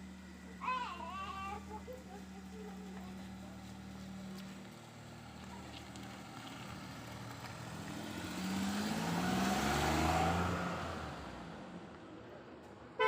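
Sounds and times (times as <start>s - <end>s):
motor vehicle passing: 0.0s - 11.9s.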